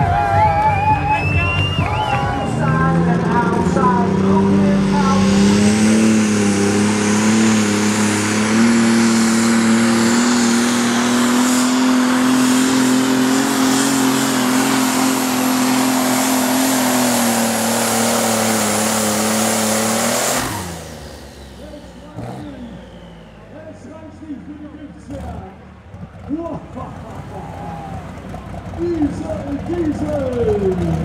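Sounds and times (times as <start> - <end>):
diesel tractor engine under load: 0.0 - 31.0
high turbo whine: 0.0 - 31.0.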